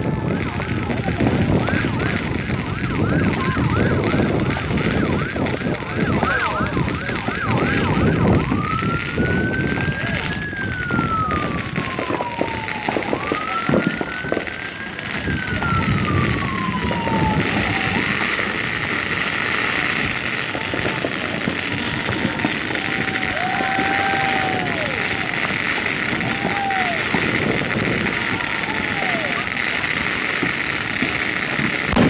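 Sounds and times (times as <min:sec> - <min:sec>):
emergency vehicle siren: 0:00.0 - 0:32.0.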